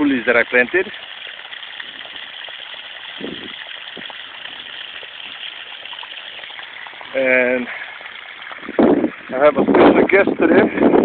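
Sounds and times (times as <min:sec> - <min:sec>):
running water hissing: 0:00.0 - 0:10.2.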